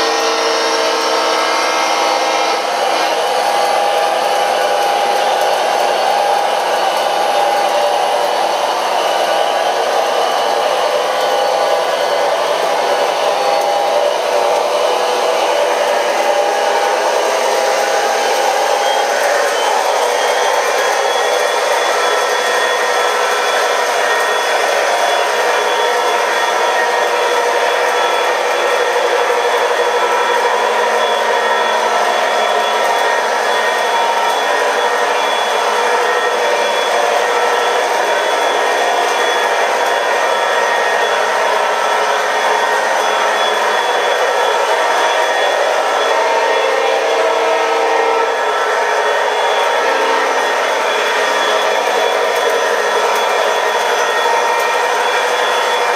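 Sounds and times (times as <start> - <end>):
model train wheels rolling: 0.0 - 47.0, 48.2 - 55.9.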